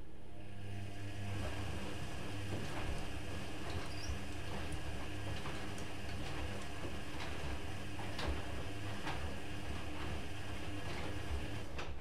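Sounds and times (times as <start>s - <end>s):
washing machine motor hum: 0.1s - 12.0s.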